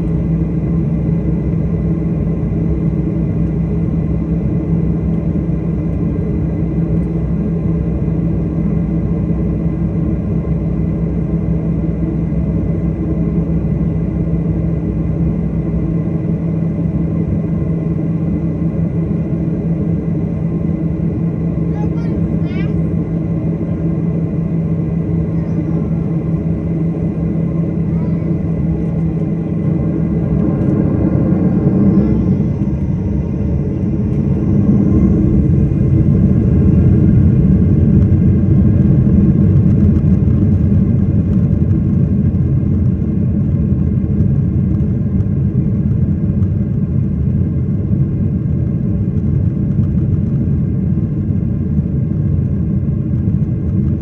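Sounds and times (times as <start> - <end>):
airliner cabin engine rumble: 0.0 - 54.0
steady hum: 0.0 - 54.0.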